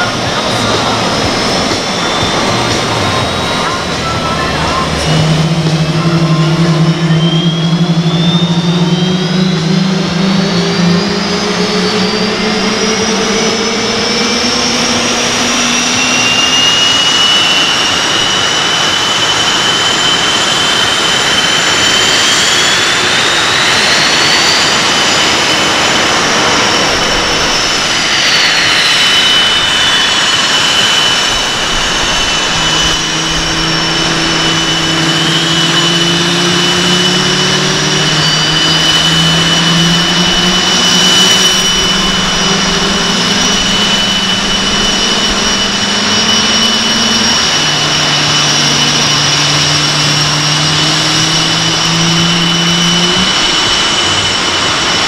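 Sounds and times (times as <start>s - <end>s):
jet engines idling roar: 0.0s - 55.0s
low hum rising in pitch: 0.0s - 55.0s.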